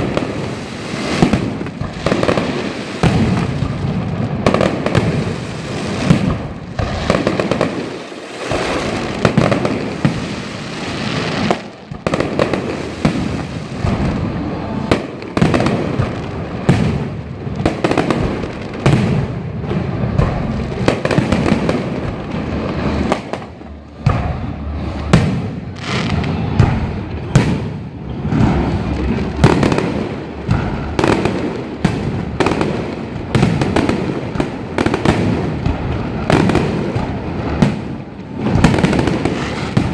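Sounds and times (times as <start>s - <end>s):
firecrackers banging and crackling: 0.0s - 39.9s.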